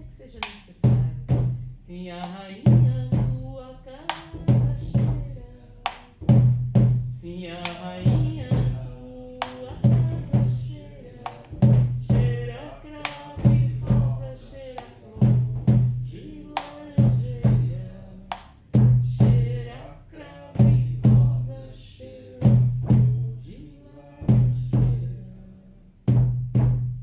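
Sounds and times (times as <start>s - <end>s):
frame drums heartbeat rhythm: 0.0s - 27.0s.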